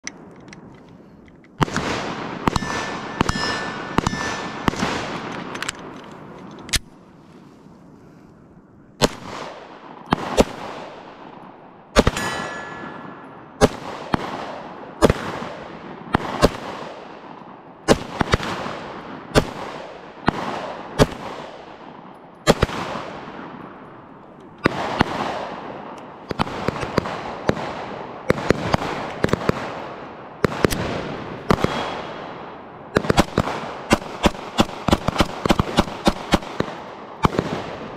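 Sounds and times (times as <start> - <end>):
pistol shots echoing: 1.6 - 6.7, 9.0 - 37.9.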